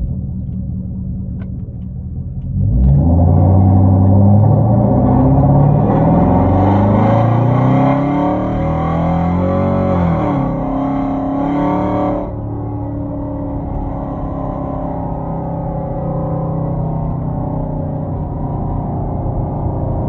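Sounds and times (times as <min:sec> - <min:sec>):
car exhaust revving: 0:00.0 - 0:20.0.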